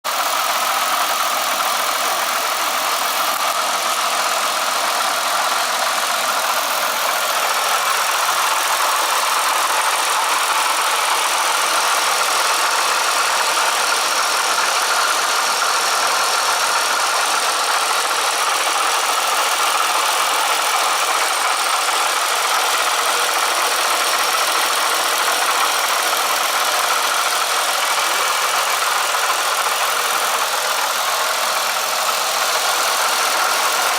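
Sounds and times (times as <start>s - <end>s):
engine rattle: 0.0s - 33.9s
motorcycle engine running: 0.0s - 33.9s.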